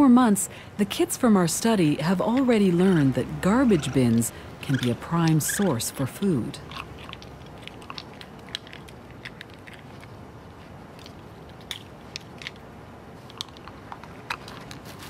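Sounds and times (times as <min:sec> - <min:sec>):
steady low hiss: 0:00.0 - 0:15.0
raccoons chewing garbage: 0:00.5 - 0:15.0.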